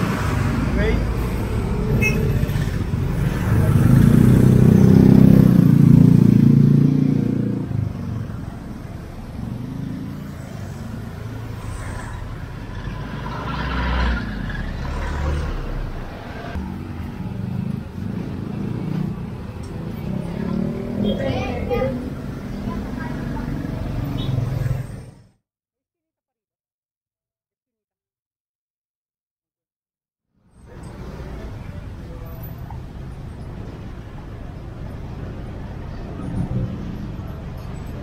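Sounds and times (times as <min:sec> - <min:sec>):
motorcycles passing: 0:00.0 - 0:25.3, 0:30.7 - 0:38.0.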